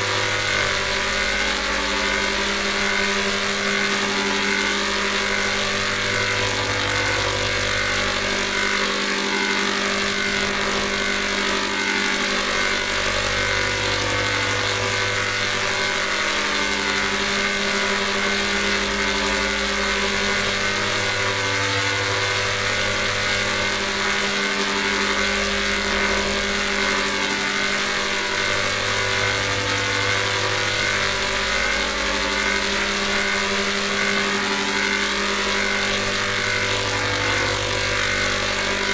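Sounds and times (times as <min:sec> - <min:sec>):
distorted electronic drone: 0:00.0 - 0:38.9.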